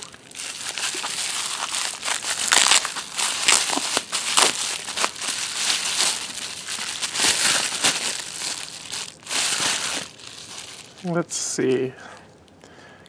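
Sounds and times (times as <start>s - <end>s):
bubble wrap crinkling: 0.0s - 12.6s.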